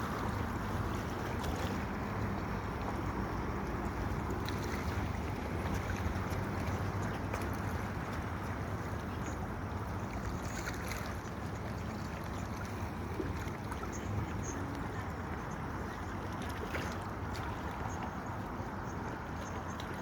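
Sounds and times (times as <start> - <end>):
boat engine rumbling: 0.0 - 20.0
water noise: 0.0 - 20.0
wind: 0.0 - 20.0.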